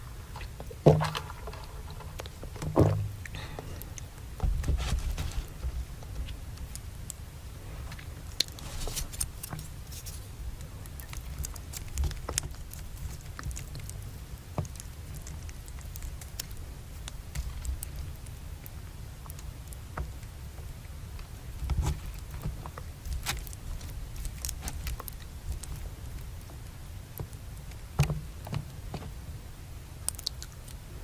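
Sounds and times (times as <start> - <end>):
eating clicks and crackles: 5.3 - 29.2, 29.9 - 30.9.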